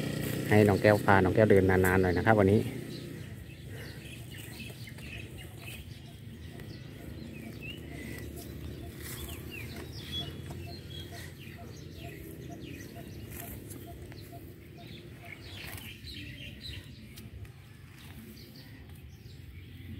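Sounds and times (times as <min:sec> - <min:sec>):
small birds chirping: 0:00.0 - 0:19.9
soft repeated bird call: 0:00.6 - 0:19.9.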